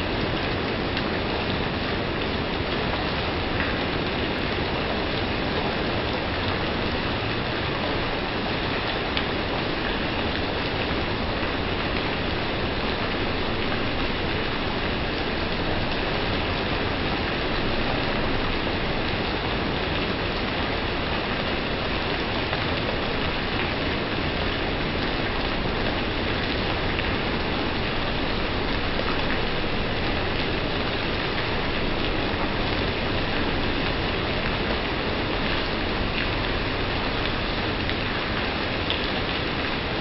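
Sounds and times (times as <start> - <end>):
rain falling on wet paving: 0.0 - 40.0.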